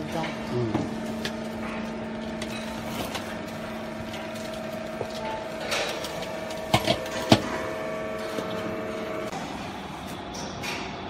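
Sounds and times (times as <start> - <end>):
hydraulic baler humming: 0.0 - 10.8.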